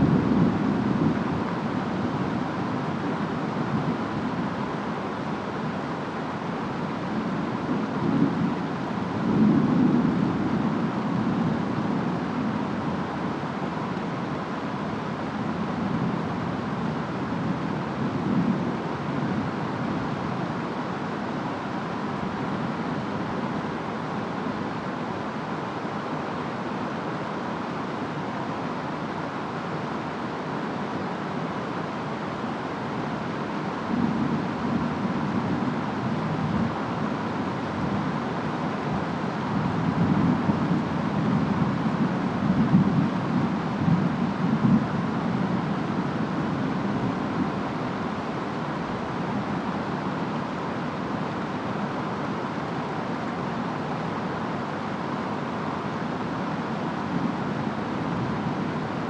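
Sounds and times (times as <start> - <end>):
steady rainfall: 0.0 - 59.0
wind: 0.0 - 59.0.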